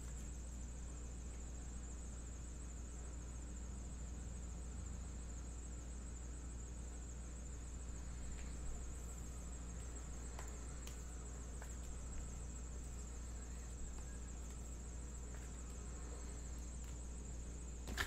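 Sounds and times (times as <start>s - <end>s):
electrical hum: 0.0s - 18.0s
faint high-pitched whine: 0.0s - 18.0s.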